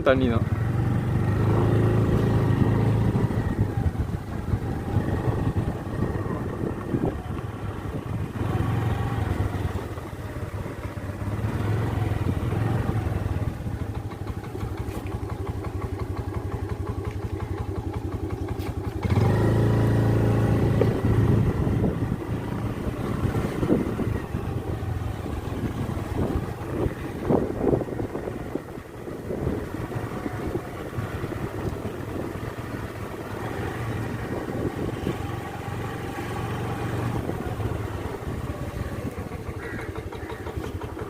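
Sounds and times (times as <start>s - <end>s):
small vehicle engine running: 0.0s - 41.0s.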